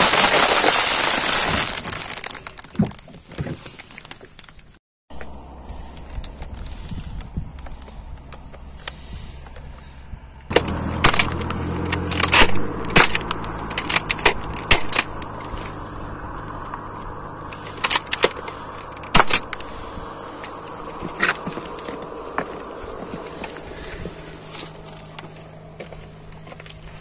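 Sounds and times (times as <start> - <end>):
car engine starting and idling: 5.1 - 27.0.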